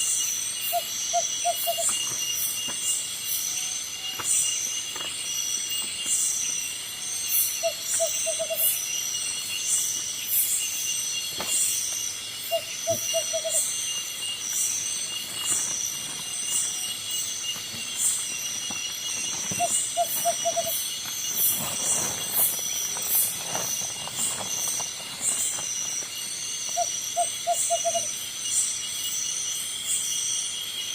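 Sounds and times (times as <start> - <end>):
insect chorus: 0.0 - 30.9.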